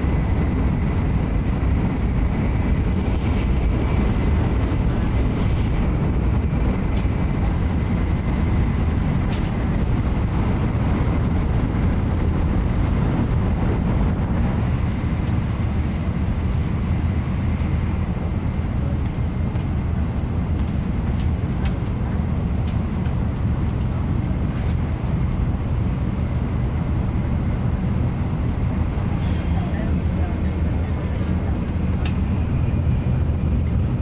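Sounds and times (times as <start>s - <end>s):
train cabin low rumble: 0.0s - 34.0s.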